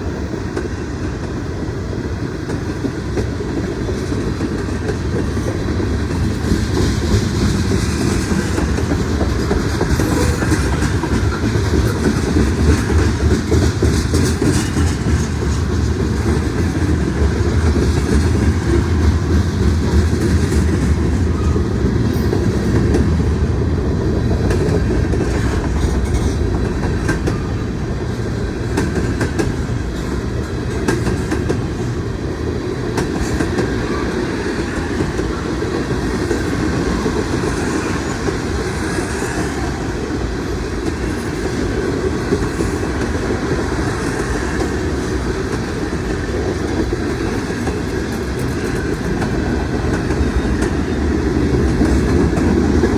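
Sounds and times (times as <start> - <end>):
steel wheels rumbling on rail: 0.0 - 52.9.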